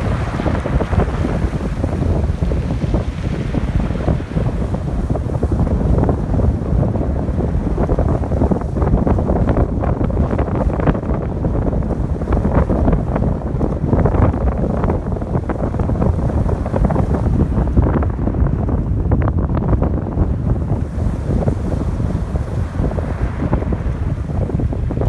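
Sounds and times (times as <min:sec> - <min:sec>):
ocean waves breaking: 0:00.0 - 0:18.5, 0:20.2 - 0:25.0
wind buffeting microphone: 0:00.0 - 0:25.0.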